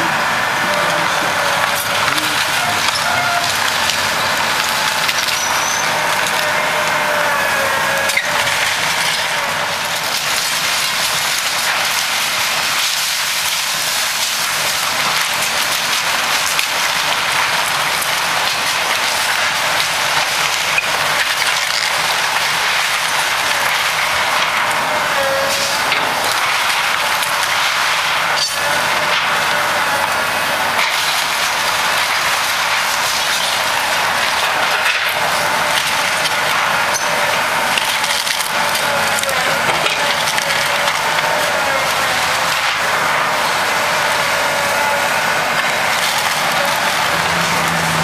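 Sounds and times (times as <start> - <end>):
excavator diesel engine under load: 0.0 - 48.0
timber cracking and splintering: 0.3 - 48.0.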